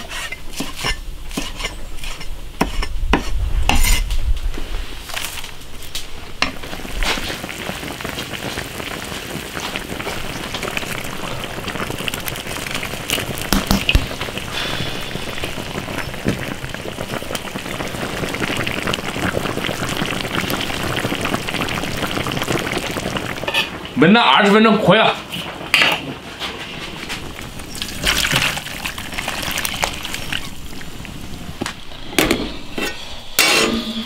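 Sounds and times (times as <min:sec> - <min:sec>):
fish stew bubbling and sizzling: 0:00.0 - 0:34.0.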